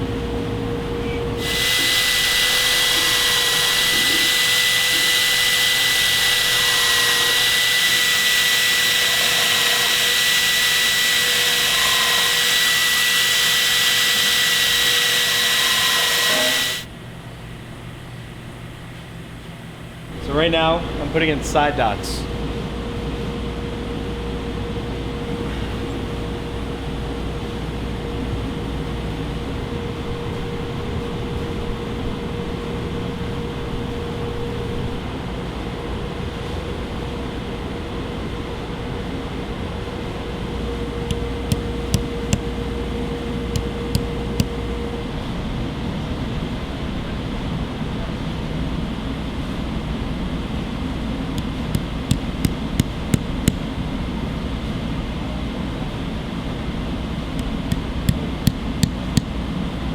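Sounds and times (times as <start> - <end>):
fan hum: 0.0 - 59.9.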